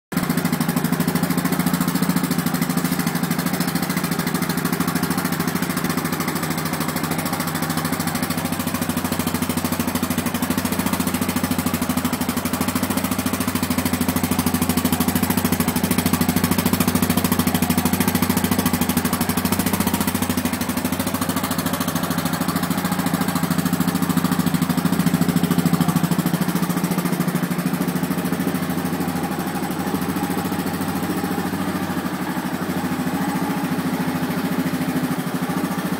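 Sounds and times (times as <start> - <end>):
atv engine idling: 0.1 - 35.9.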